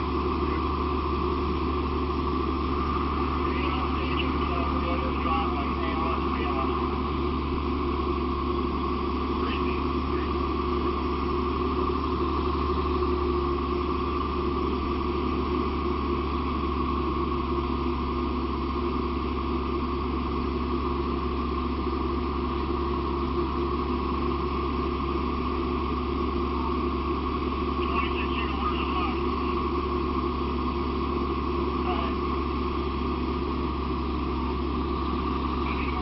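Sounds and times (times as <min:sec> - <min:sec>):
diesel engine droning: 0:00.0 - 0:36.0.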